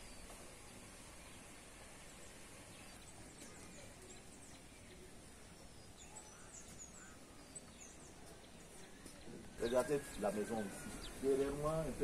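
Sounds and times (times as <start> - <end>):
faint high bird chirps: 2.2 - 12.0.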